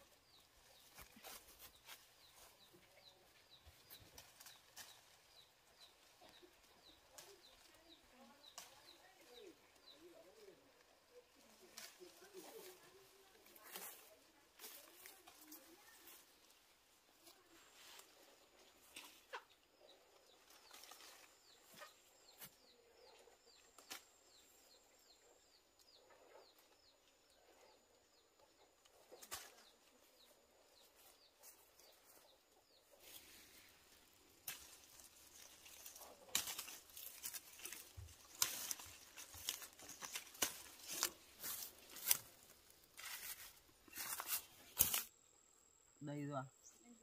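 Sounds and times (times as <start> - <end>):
leaves and branches rustling: 0.0 - 45.2.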